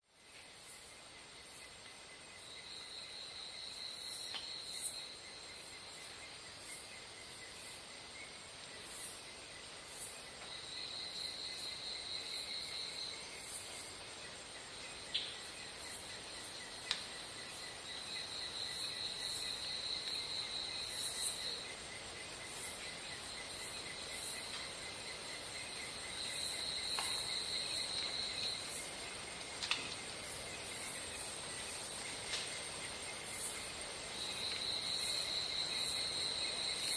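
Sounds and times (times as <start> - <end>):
insect trill: 0.1 - 36.9
insects high-pitched whine: 0.1 - 36.9.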